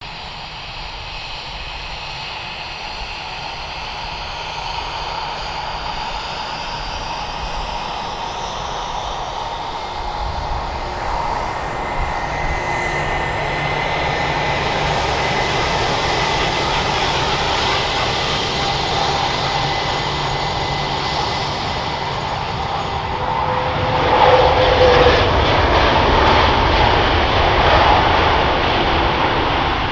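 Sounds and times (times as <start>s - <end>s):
jet airliner engines droning: 0.0s - 29.9s.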